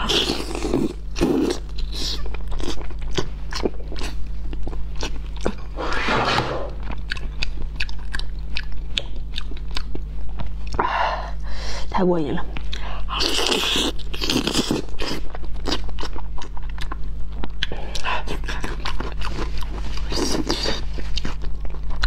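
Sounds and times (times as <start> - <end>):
biting and chewing mouth sounds: 0.0 - 5.8, 6.8 - 10.8, 12.5 - 22.0
low electrical hum: 0.0 - 22.0.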